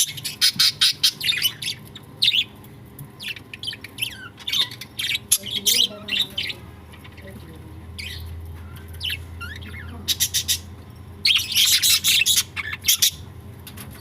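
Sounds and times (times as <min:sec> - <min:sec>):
budgerigars chirping and squawking: 0:00.0 - 0:13.8.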